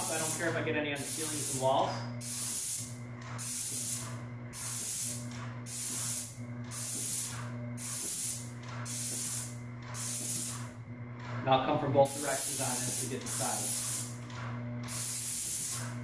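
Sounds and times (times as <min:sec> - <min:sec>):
paint sprayer hissing: 0:00.0 - 0:10.8, 0:11.8 - 0:14.2, 0:14.9 - 0:16.0
steady low hum: 0:00.0 - 0:16.0.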